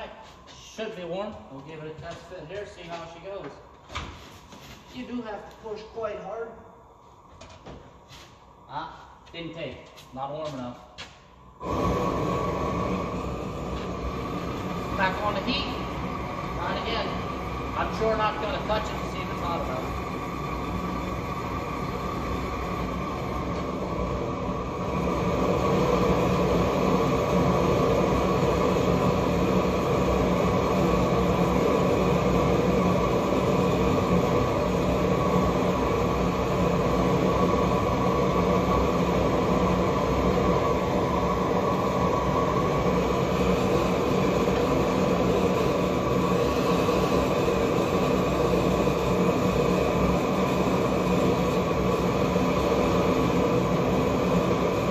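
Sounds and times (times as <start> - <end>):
propane torch roaring: 0.0 - 10.1, 11.0 - 54.9.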